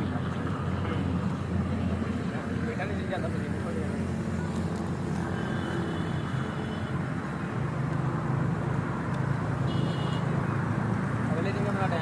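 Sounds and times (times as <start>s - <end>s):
low rumble of traffic or engine: 0.0s - 12.0s.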